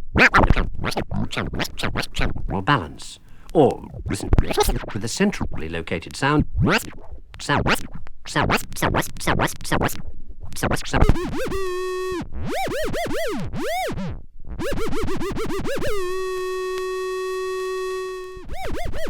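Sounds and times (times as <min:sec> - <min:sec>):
record playing buzzy tone: 0:00.0 - 0:09.9, 0:10.7 - 0:19.0
turntable scratching: 0:00.0 - 0:14.0, 0:14.6 - 0:17.0, 0:18.0 - 0:19.0.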